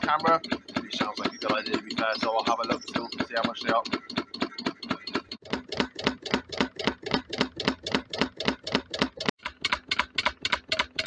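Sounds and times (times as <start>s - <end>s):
stirling engine clonking: 0.0s - 9.6s.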